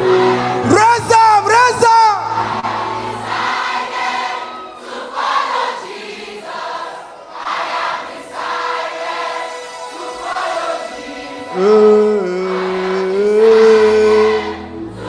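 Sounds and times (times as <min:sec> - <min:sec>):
choir singing a gospel song: 0:00.0 - 0:15.0.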